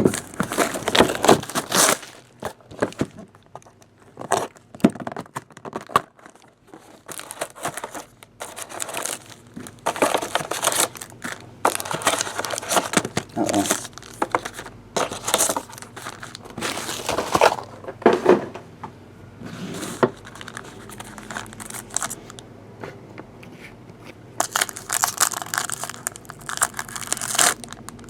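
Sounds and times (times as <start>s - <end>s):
card pack wrappers crinkling and tearing: 0.0s - 17.7s, 20.0s - 22.4s, 24.4s - 28.0s
cards and packaging rustling: 0.0s - 17.9s, 19.7s - 22.4s, 24.4s - 28.0s.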